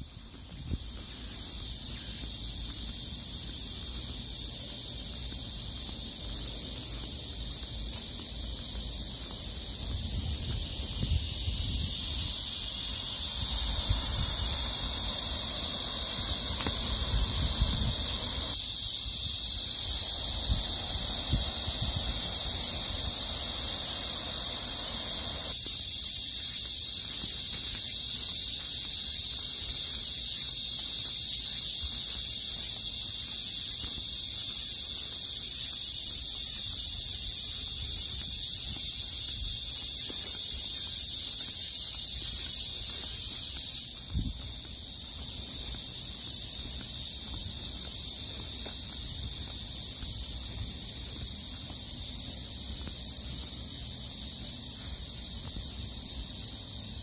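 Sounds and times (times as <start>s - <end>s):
insects shrilling: 0.0s - 57.0s.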